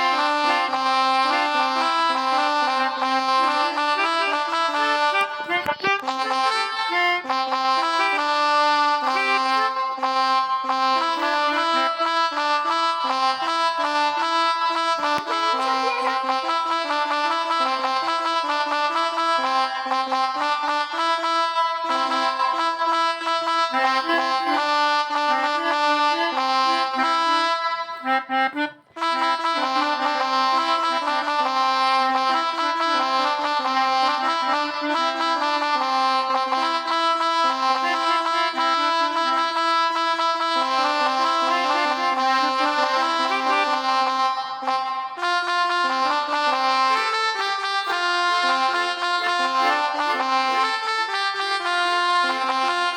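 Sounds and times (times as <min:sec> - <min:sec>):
melodica app reedy notes: 0:00.0 - 0:52.9.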